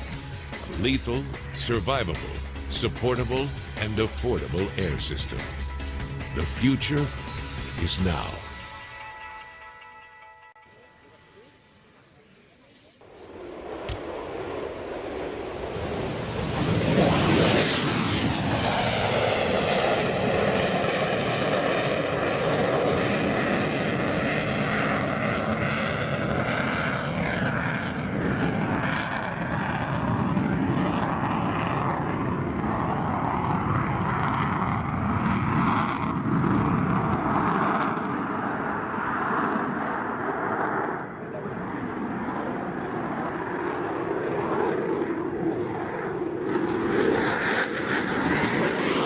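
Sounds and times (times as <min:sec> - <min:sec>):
military jet engine: 0:00.0 - 0:08.7, 0:12.9 - 0:49.0.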